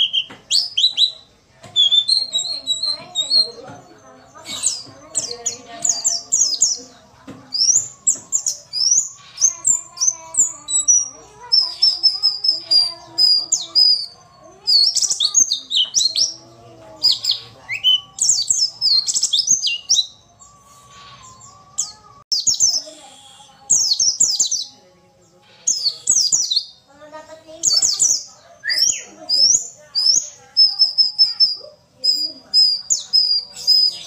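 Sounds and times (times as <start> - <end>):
bird chirping and twittering: 0.0 - 34.0.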